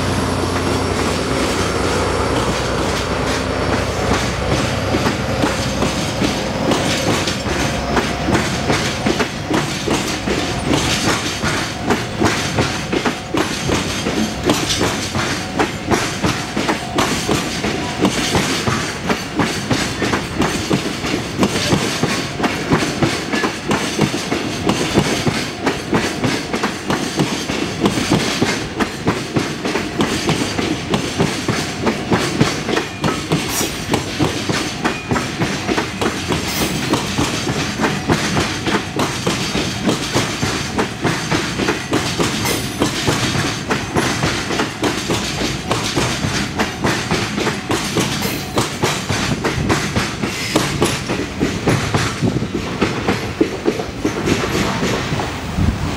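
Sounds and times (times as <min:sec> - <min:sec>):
train wheels clicking over rail joints: 0:00.0 - 0:55.9.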